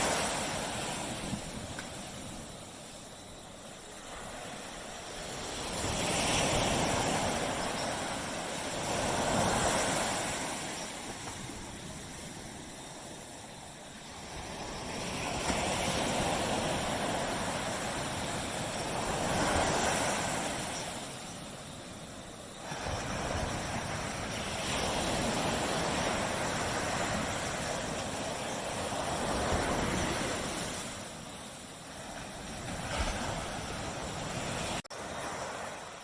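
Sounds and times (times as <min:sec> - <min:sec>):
waves breaking on a beach: 0:00.0 - 0:36.0.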